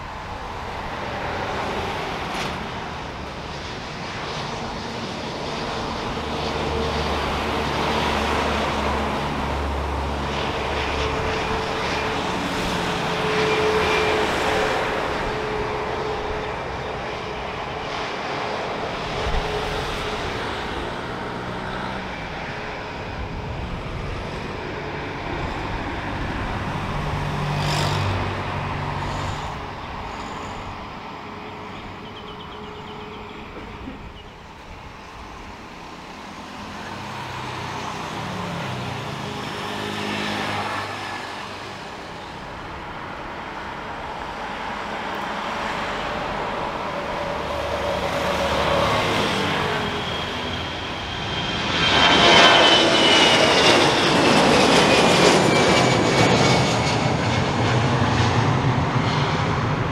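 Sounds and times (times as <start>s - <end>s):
jet engines rushing: 0.0s - 59.9s.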